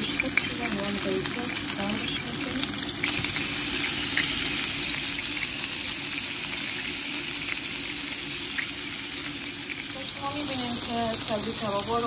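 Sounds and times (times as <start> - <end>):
meat patties sizzling in oil: 0.0 - 12.0.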